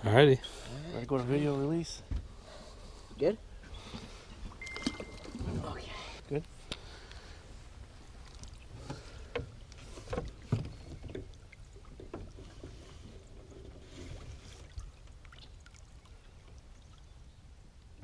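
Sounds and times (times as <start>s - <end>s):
water sloshing and splashing: 2.2s - 18.0s.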